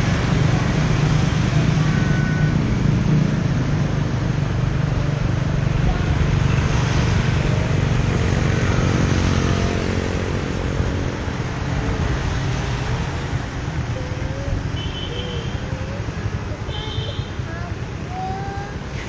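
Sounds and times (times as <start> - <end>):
motorbike engines: 0.0 - 19.0
road and wind rumble: 0.0 - 19.0.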